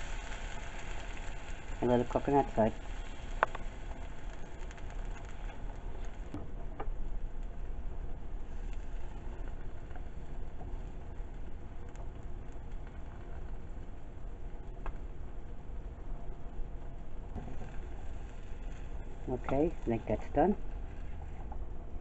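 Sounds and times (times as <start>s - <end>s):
egg and bread sizzling in butter: 0.0s - 6.4s, 7.0s - 22.0s.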